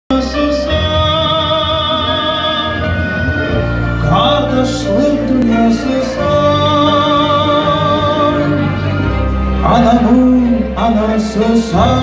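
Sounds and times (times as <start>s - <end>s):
electronic keyboard backing: 0.1s - 12.0s
man singing into microphone: 0.1s - 12.0s.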